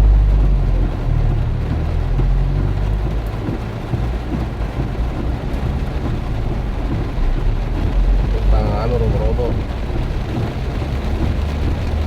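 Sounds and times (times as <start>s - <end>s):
heavy rain pouring: 0.0s - 12.0s
low rumble of strong wind: 0.0s - 12.0s.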